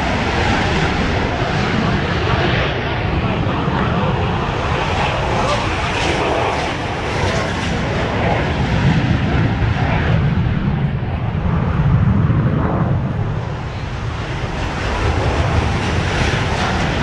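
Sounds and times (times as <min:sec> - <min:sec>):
aircraft engine rumble: 0:00.0 - 0:17.0.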